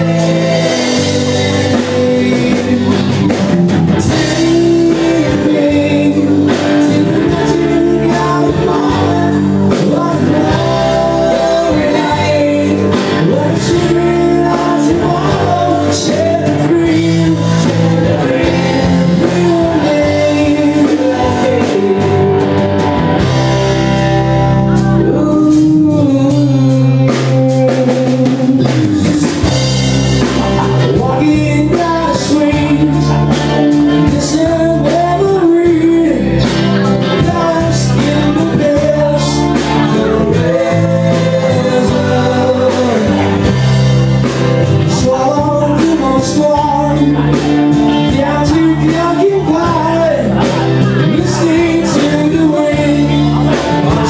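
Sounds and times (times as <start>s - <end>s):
drum and cymbal hits: 0.0s - 24.5s, 25.5s - 54.0s
person singing: 0.0s - 54.0s
rock band playing: 0.0s - 54.0s.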